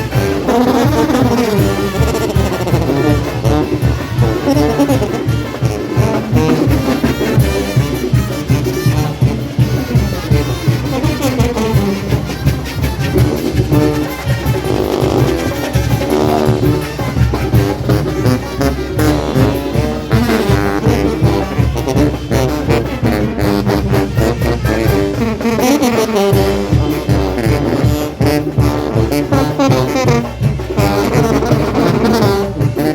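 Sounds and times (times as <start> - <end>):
brass band playing dance tune: 0.0 - 32.9
steady drum beat: 0.0 - 32.9.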